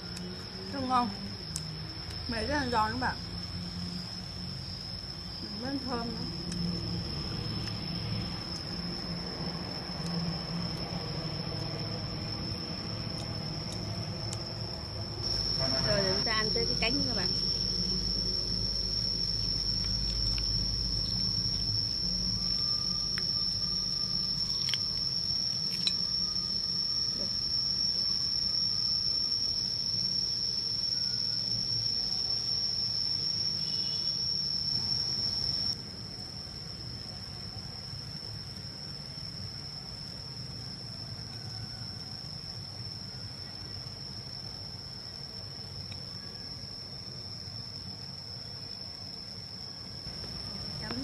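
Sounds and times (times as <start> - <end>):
high-pitched insect trill: 0.0 - 51.0.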